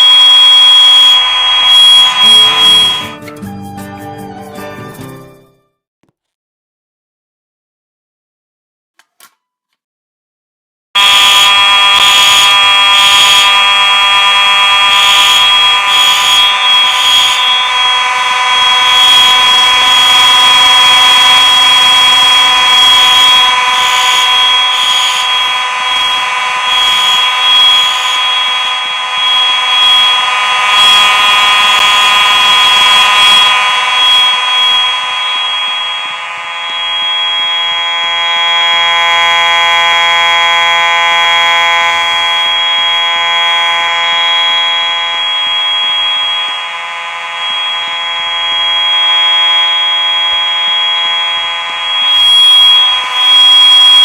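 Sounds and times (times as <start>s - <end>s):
fire alarm horns sounding: 0.0s - 3.2s, 11.0s - 54.0s.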